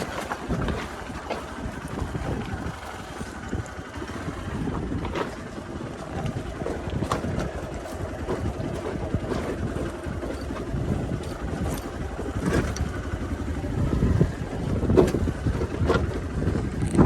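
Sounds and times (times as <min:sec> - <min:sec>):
bike jolting over rough ground: 0:00.0 - 0:17.0
motorcycle engine rumbling: 0:00.0 - 0:17.0
wind buffeting microphone: 0:00.0 - 0:17.0.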